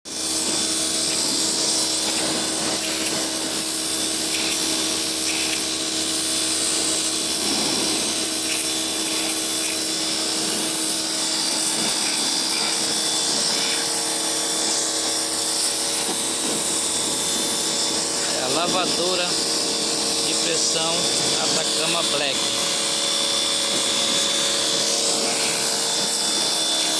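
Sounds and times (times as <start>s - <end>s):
pressure washer hiss: 0.1s - 26.9s
pressure washer motor hum: 0.1s - 26.9s.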